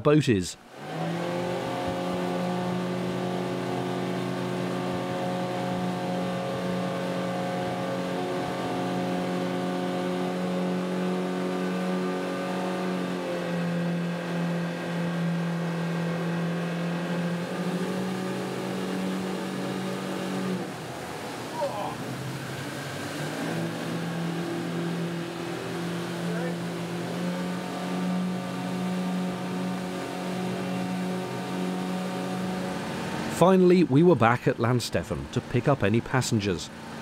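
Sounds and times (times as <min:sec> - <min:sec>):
rushing water: 0:00.1 - 0:37.0
outboard motor running hard: 0:00.7 - 0:37.0.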